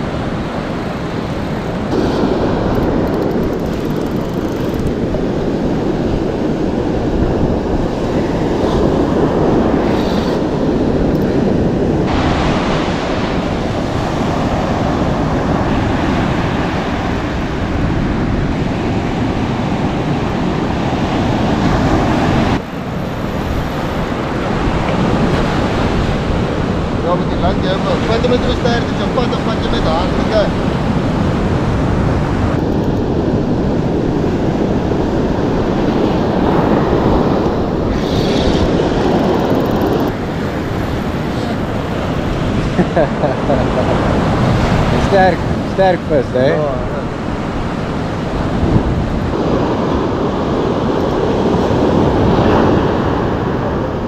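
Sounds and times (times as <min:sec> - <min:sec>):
surf washing on shore: 0:00.0 - 0:54.0
wind on microphone: 0:00.0 - 0:54.0.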